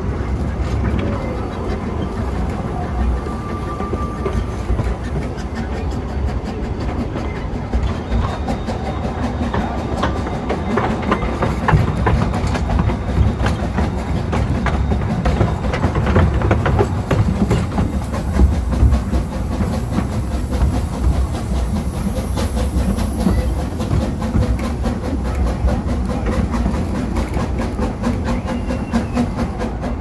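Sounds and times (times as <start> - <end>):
train wheels rumbling: 0.0 - 30.0
wheels clicking over rail joints: 0.0 - 30.0.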